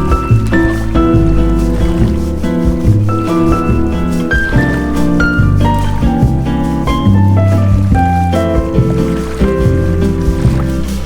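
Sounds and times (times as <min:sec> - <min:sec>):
bossa nova music: 0:00.0 - 0:11.0.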